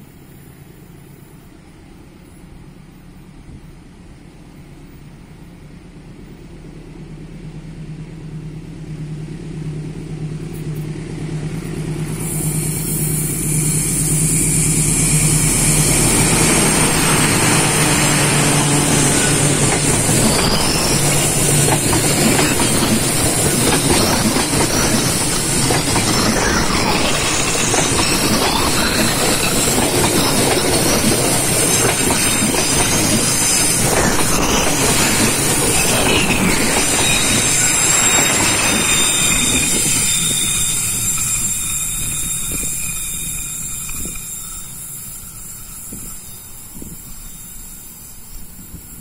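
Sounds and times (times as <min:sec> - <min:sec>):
locomotive engine hum: 0:00.0 - 0:45.7
train wheels clattering on rails: 0:09.6 - 0:49.0.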